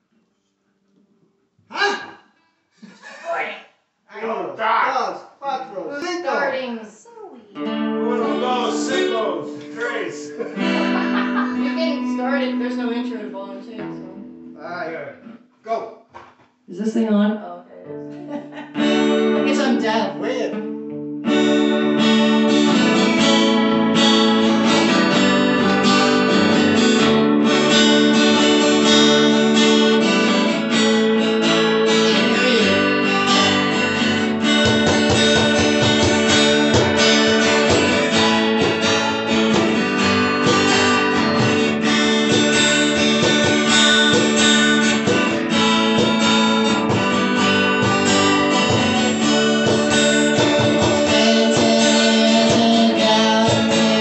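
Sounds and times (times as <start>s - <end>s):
acoustic guitars strummed and picked: 7.4s - 15.5s, 17.8s - 54.0s.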